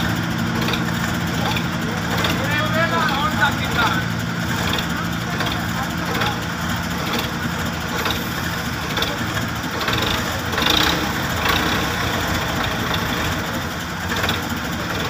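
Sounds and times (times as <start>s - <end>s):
road roller diesel engine running: 0.0s - 15.0s.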